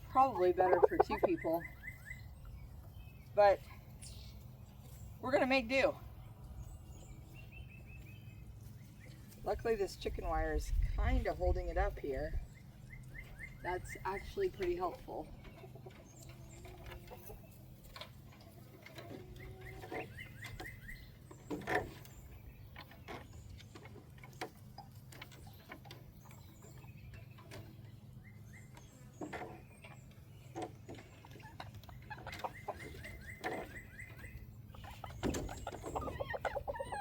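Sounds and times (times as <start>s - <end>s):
chickens clucking: 0.0s - 37.0s
low background hum: 0.0s - 37.0s.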